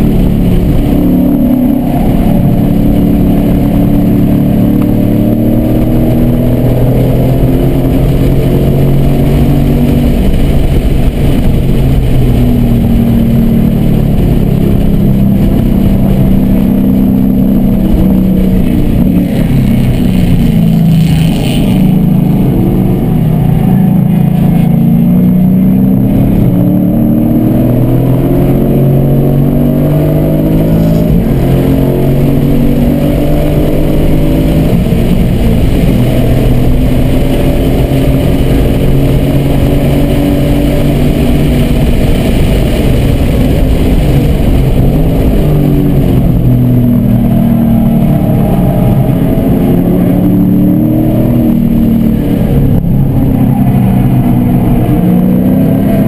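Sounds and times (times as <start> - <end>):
race car engine revving and shifting: 0.0 - 56.0.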